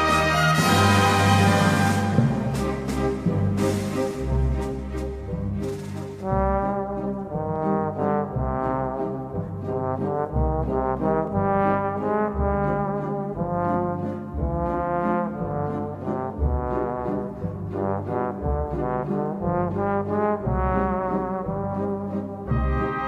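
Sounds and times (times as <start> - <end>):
instrumental music with pulsing bass: 0.0 - 23.0.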